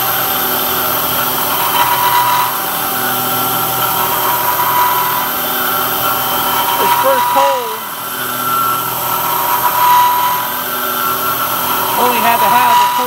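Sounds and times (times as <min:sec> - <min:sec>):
constant machine hum: 0:00.0 - 0:13.0
milling machine cutting steel: 0:00.0 - 0:13.0.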